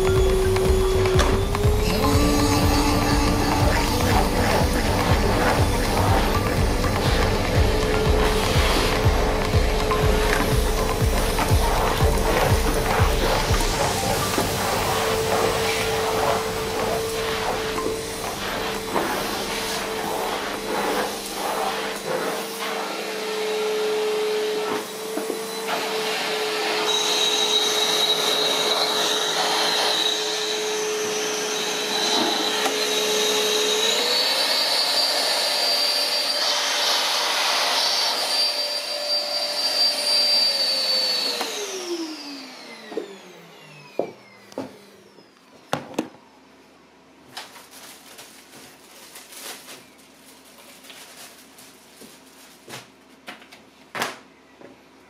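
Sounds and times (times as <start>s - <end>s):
vacuum cleaner motor whine: 0.0s - 53.0s.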